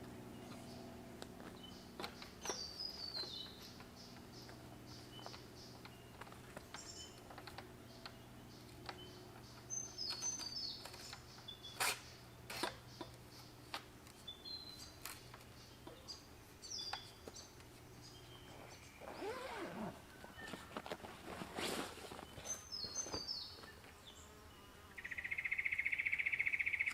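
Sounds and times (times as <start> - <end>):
forest birds chirping: 0.0 - 26.9.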